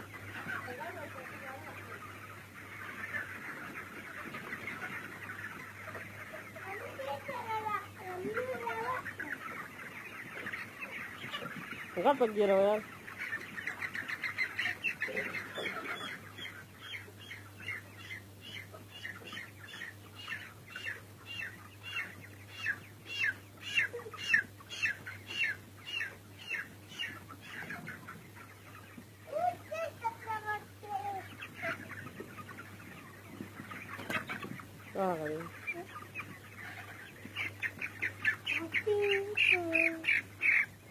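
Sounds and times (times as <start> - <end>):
chickens calling: 0.0 - 40.9
faint steady hum: 0.0 - 40.9.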